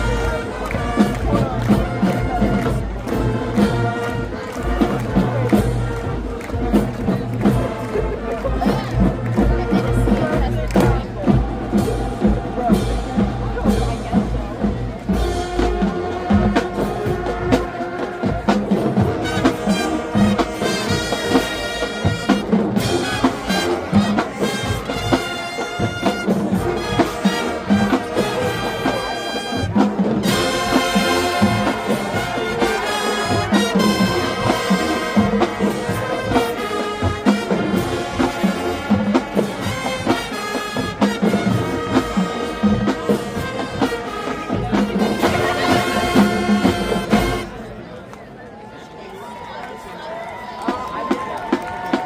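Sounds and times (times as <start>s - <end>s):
steady drum beat: 0.0s - 47.5s
brass chords: 0.0s - 47.9s.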